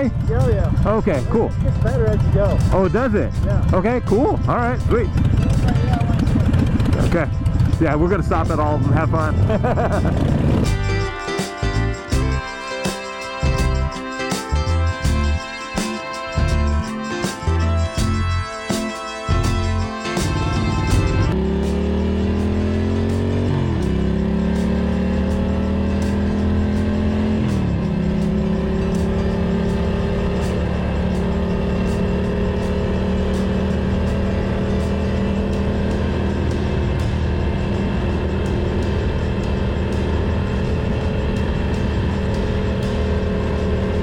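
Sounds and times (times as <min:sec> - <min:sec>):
motorcycle engine accelerating: 0:00.0 - 0:12.6, 0:19.3 - 0:44.0
background music with beat: 0:00.0 - 0:44.0.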